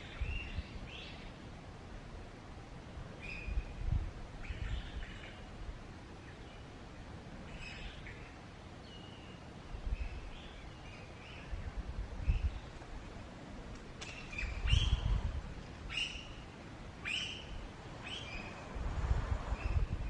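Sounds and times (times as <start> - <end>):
forest background noise: 0.0 - 20.0.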